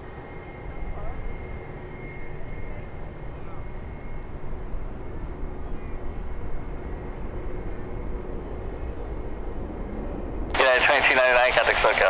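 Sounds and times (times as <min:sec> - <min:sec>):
faint high engine whine: 0:00.0 - 0:12.0
jet engines rumbling: 0:00.0 - 0:12.0.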